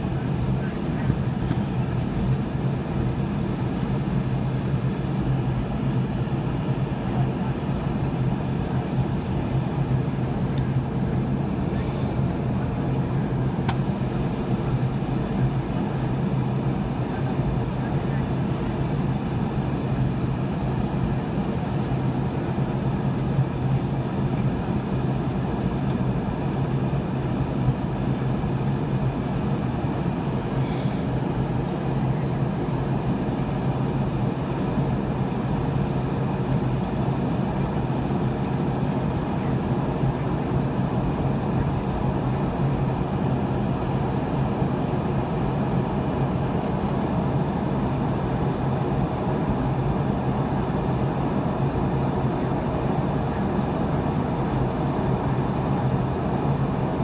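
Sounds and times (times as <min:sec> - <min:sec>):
low jet engine drone: 0:00.0 - 0:57.0
rushing airflow in aircraft cabin: 0:00.0 - 0:57.0.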